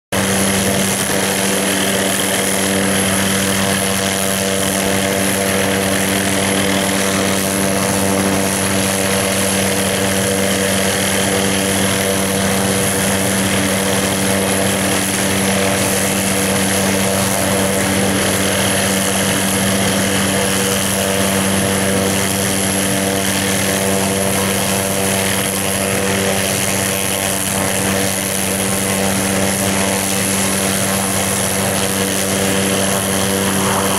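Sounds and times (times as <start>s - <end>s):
helicopter turbine and rotor: 0.1s - 33.9s.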